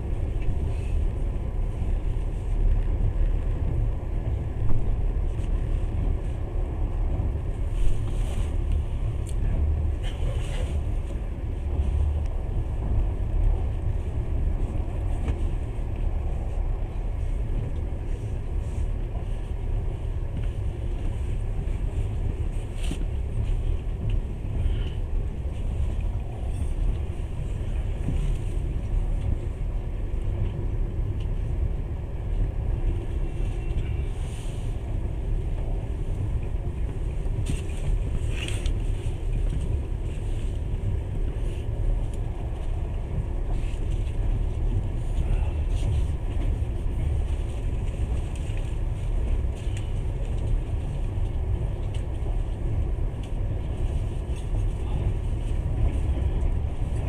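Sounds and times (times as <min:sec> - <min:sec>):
train carriage rumbling on rails: 0:00.0 - 0:57.0.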